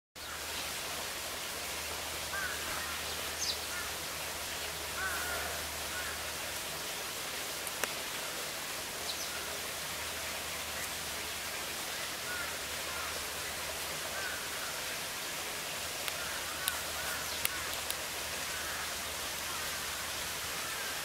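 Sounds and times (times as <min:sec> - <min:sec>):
steady outdoor hiss: 0:00.2 - 0:21.0.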